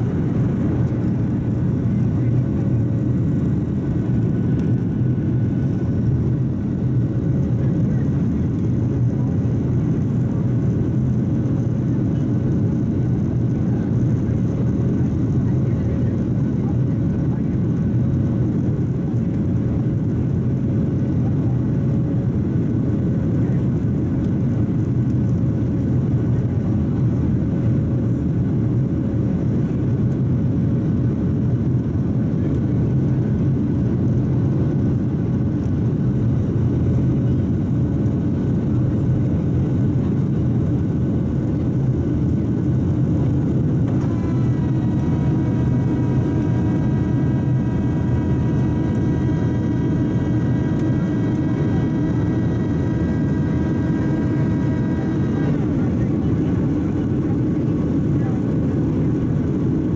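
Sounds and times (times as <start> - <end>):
jet engines rushing in cabin: 0.0 - 59.9.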